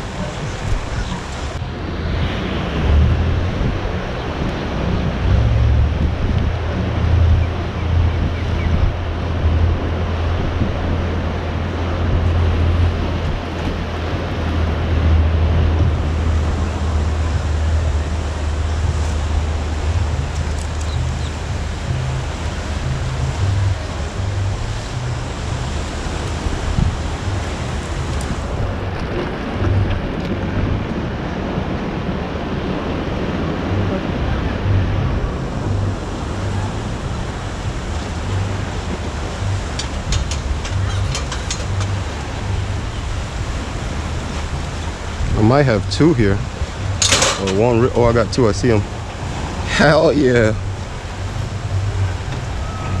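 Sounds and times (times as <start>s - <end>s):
sea washing: 0.0s - 53.0s
wind rumbling on microphone: 0.0s - 53.0s.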